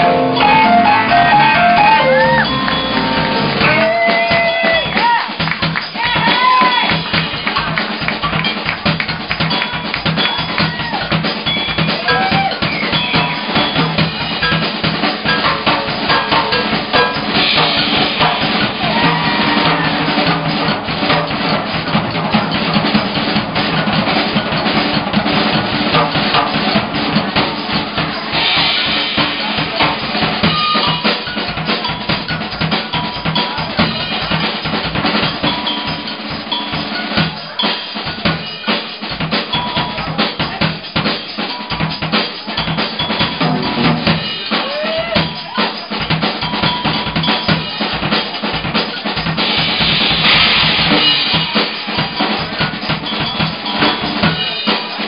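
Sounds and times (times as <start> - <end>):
drum kit groove: 0.0 - 55.0
funk band playing: 0.0 - 55.0.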